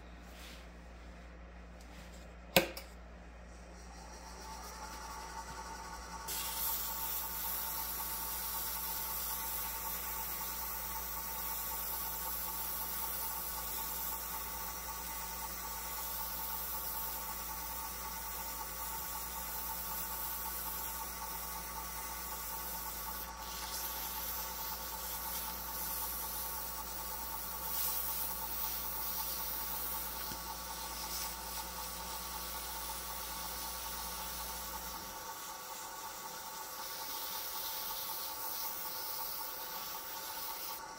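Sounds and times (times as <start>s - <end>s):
sandpaper hissing on spinning wood: 3.7s - 40.9s
lathe motor hum: 3.8s - 6.3s, 6.9s - 40.9s.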